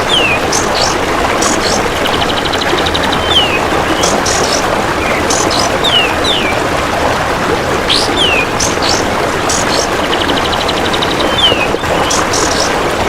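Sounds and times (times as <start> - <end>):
bird chirps sliding downward: 0.0 - 2.3, 3.2 - 6.5, 7.9 - 12.8.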